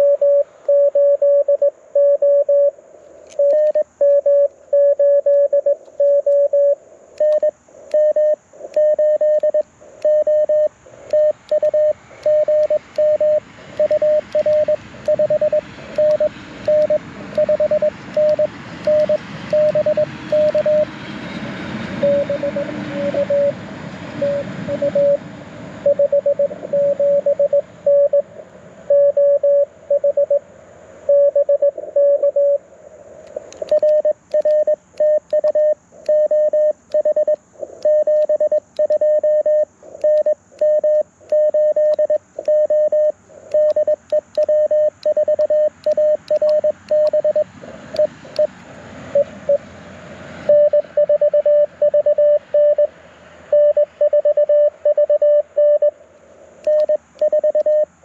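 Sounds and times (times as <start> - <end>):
morse code tone beeping: 0.0 - 20.9, 22.0 - 23.6, 24.2 - 25.2, 25.8 - 28.3, 28.9 - 30.4, 31.1 - 32.6, 33.6 - 48.5, 49.1 - 49.6, 50.5 - 52.9, 53.5 - 56.0, 56.6 - 57.9
radio band noise hiss: 1.6 - 2.0, 2.6 - 28.9, 29.6 - 51.0.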